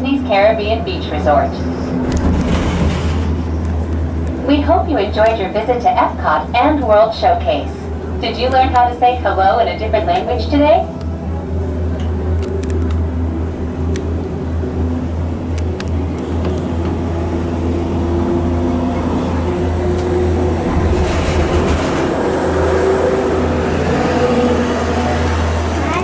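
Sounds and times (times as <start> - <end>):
gondola cabin hum and rumble: 0.0 - 26.0.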